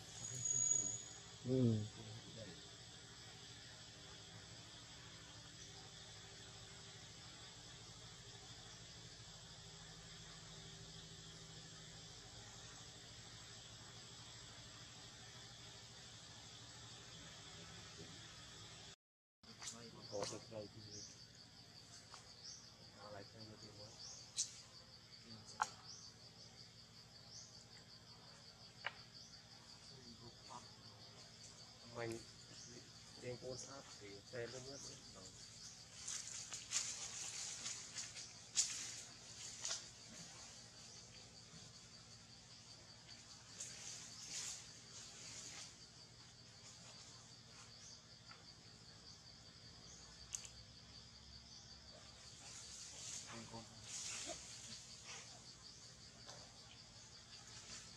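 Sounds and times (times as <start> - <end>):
insect chirping: 0.0 - 57.9.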